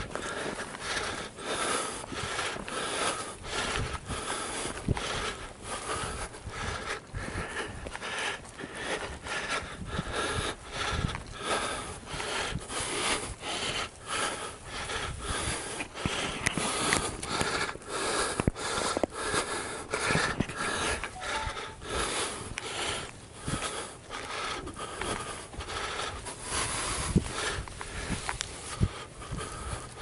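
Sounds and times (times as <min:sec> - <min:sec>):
person breathing: 0:00.0 - 0:30.0.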